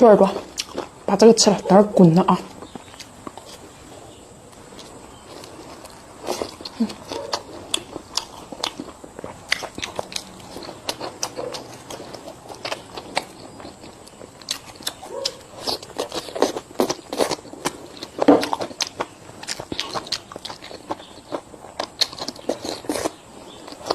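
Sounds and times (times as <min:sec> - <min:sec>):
chewing crunchy food: 0:00.0 - 0:01.7, 0:02.3 - 0:23.9.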